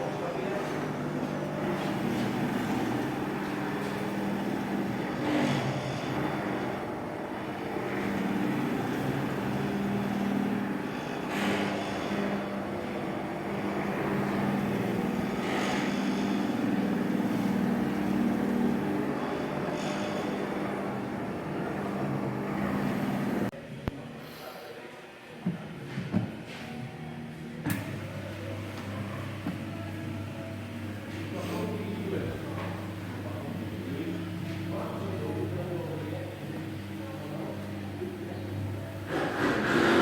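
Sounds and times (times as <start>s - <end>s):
floor cleaning machine humming: 0.0s - 23.5s, 27.6s - 40.0s.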